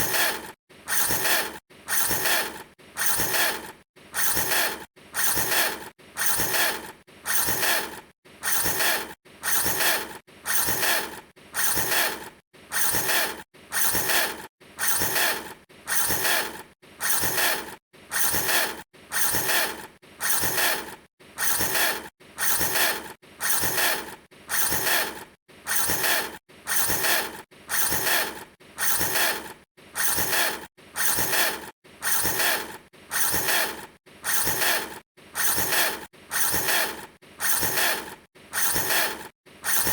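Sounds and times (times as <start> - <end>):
mechanical revving: 0.0 - 39.9.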